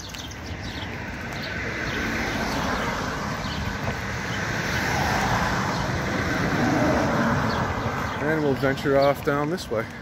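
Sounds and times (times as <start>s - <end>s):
car approaching: 0.0s - 10.0s.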